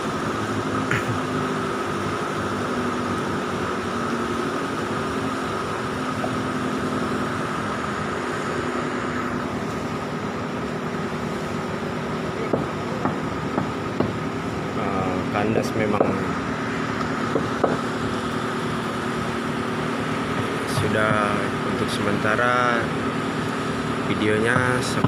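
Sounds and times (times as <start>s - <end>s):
boat engine idling: 0.0s - 25.0s
river rushing: 0.0s - 25.0s.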